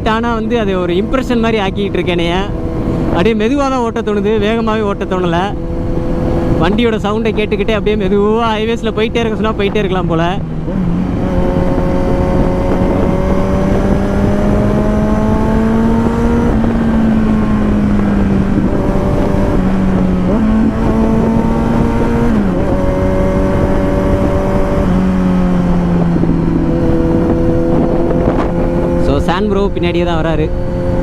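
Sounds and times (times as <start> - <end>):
motorcycle engine cruising: 0.0 - 31.0
wind and road noise: 0.0 - 31.0.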